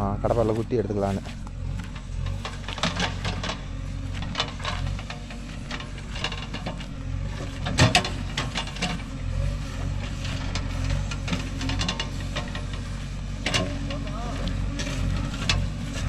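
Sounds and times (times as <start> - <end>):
diesel engine running: 0.0 - 16.0
knocks and scrapes of digging: 0.0 - 16.0.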